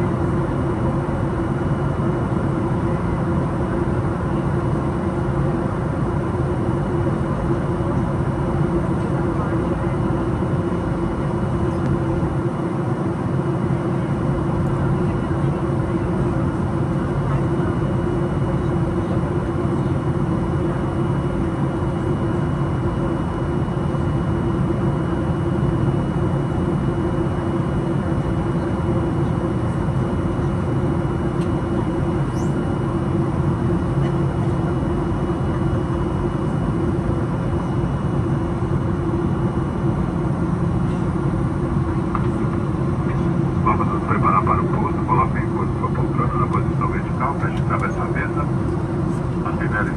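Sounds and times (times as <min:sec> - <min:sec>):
constant low hum: 0:00.0 - 0:49.9
airliner cabin rush of air: 0:09.0 - 0:49.9.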